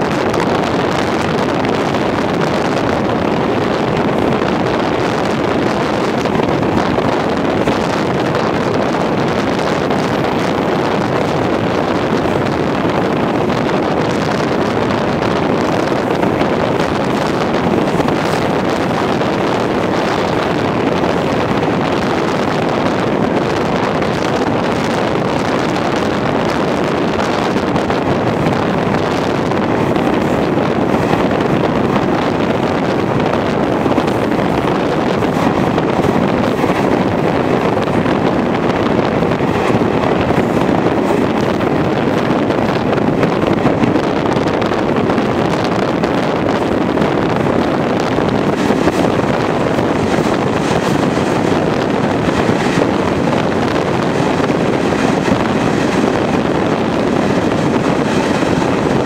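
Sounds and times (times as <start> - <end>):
train running noise: 0.0 - 59.0
wind buffeting microphone: 0.0 - 59.0.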